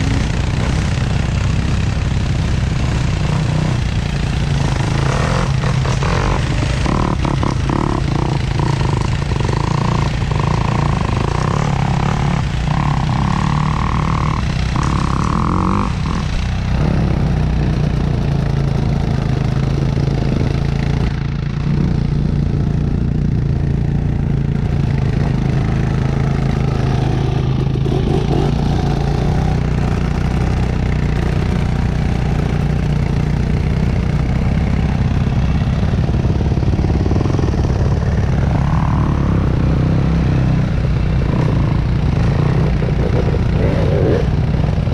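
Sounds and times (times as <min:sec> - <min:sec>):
vehicle engine running steadily: 0:00.0 - 0:44.9
wind and road noise: 0:00.0 - 0:44.9.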